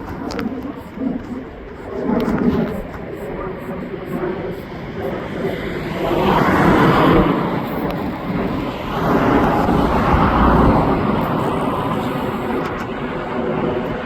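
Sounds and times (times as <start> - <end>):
jet aircraft engine rushing: 0.0 - 14.0.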